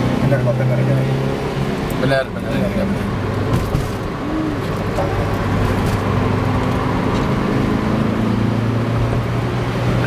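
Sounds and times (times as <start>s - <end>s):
car engine humming: 0.0s - 10.0s
tyre and road noise: 0.0s - 10.0s.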